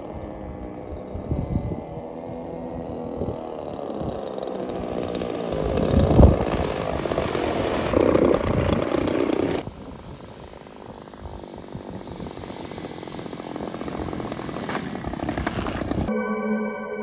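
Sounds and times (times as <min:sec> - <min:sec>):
model plane motors and propellers: 0:00.0 - 0:16.1
distant model plane drone: 0:00.0 - 0:16.2.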